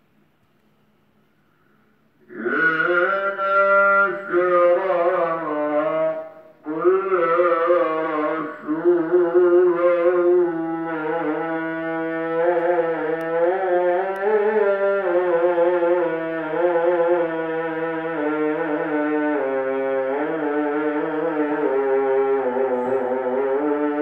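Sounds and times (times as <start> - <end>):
steady low drone: 4.0 - 24.0.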